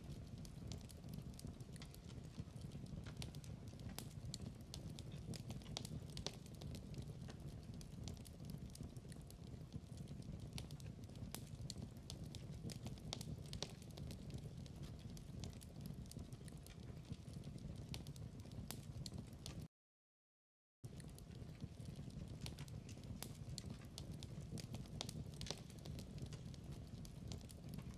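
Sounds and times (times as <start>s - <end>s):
wood fire crackling: 0.0s - 19.7s, 20.8s - 27.9s.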